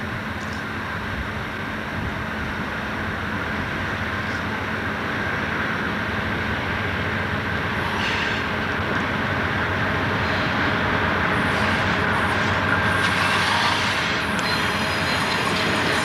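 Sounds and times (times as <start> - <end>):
locomotive engine hum: 0.0 - 16.0
train rushing noise: 0.0 - 16.0.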